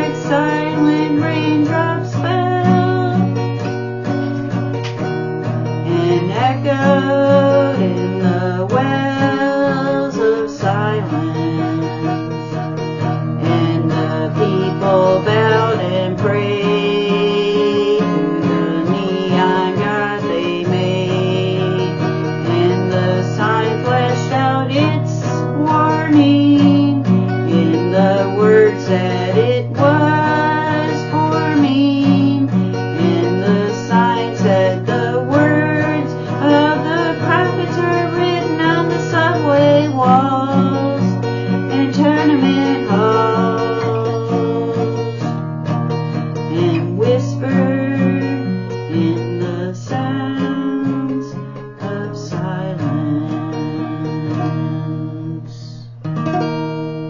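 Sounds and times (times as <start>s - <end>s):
acoustic guitar strumming: 0.0s - 57.0s
woman singing: 0.0s - 57.0s.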